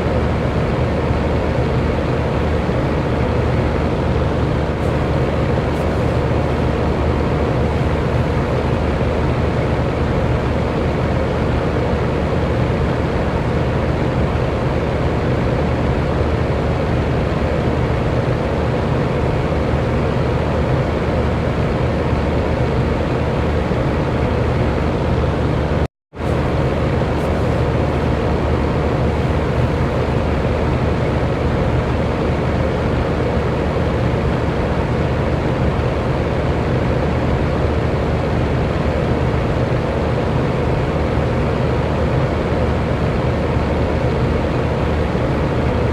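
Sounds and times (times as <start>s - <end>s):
electric fan whooshing: 0.0s - 45.9s
faint fan motor hum: 0.0s - 45.9s.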